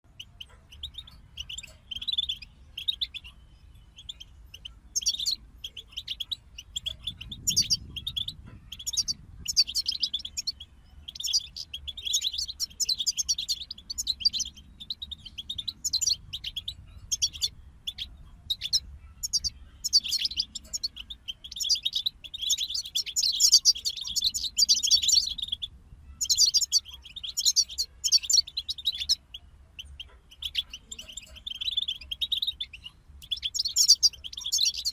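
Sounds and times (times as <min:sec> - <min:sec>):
goldfinches singing: 0:00.1 - 0:34.9.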